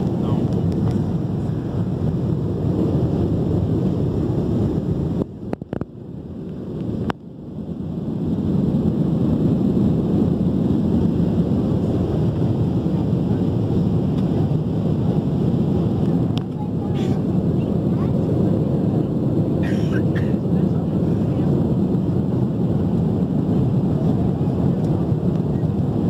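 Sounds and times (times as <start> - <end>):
airliner cabin roar: 0.0 - 26.0.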